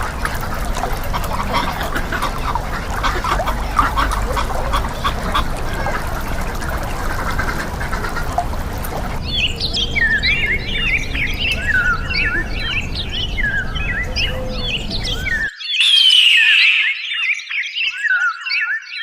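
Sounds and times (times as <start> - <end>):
low rumble: 0.0 - 15.5
small birds chirping: 0.0 - 19.0.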